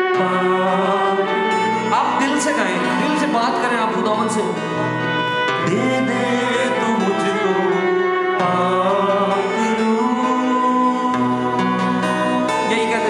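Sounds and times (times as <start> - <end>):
person singing: 0.0 - 13.0
sustained instrumental chords: 0.0 - 13.0.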